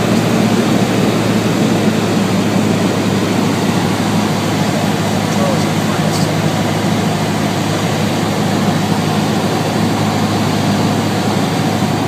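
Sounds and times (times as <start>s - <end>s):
light aircraft engine droning in cockpit: 0.0s - 12.0s.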